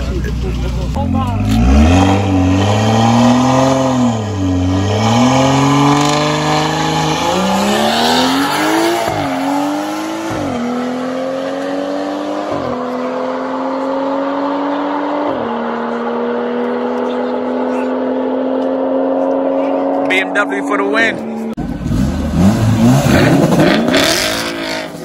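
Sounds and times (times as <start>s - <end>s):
car engine accelerating through gears: 1.0s - 20.6s, 21.2s - 25.0s.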